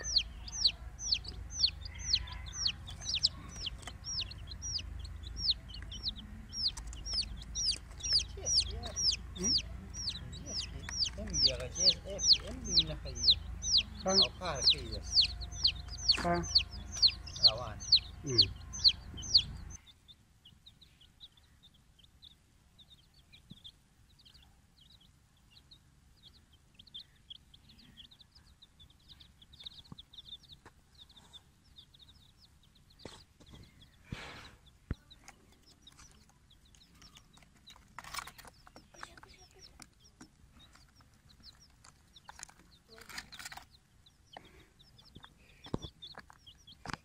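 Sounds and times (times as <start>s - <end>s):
baby chicks peeping: 0.0s - 47.0s.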